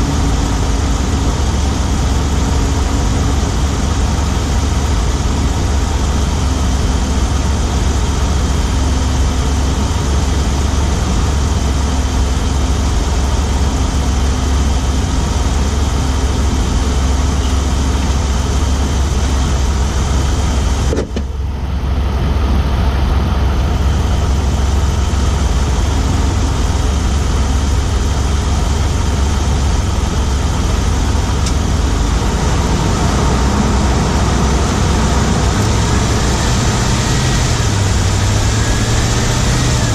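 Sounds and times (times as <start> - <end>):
engine and road din: 0.0 - 39.9
engine ticking: 0.0 - 39.9.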